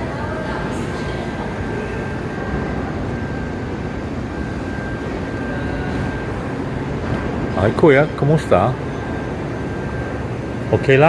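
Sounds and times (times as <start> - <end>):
faint high whine: 0.0 - 11.0
low machinery rumble: 0.0 - 11.0.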